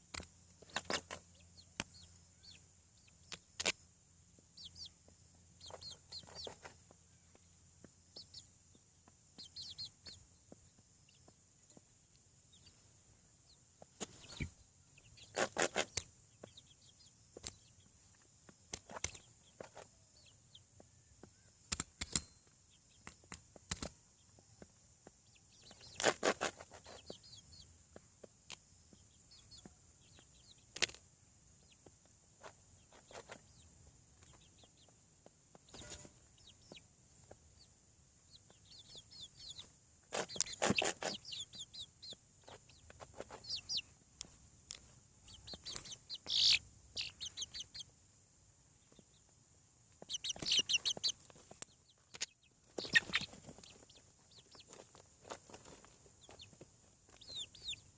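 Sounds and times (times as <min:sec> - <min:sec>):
young chickens peeping and clucking: 0:00.0 - 0:57.9.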